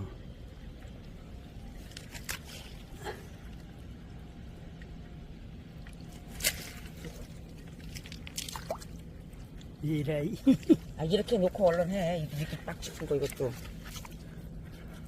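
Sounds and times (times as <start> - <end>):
low steady background noise: 0.0 - 15.0
wet squelches: 1.1 - 9.8, 10.6 - 15.0.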